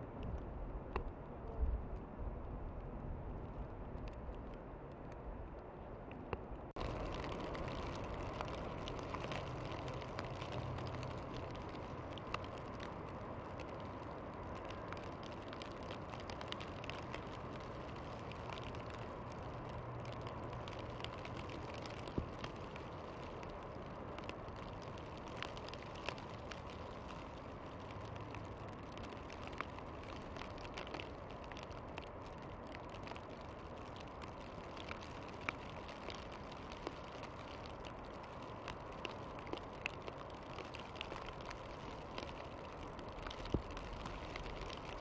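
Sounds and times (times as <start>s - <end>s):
faint low rumble: 0.0s - 45.0s
snow ticking on branches: 6.7s - 45.0s
snowstorm hiss: 6.7s - 45.0s.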